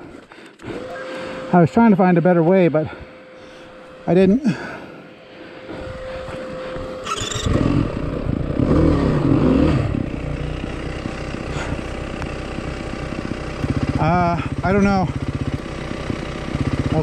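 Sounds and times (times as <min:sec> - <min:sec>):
dirt bike engine revving: 0:00.6 - 0:17.0.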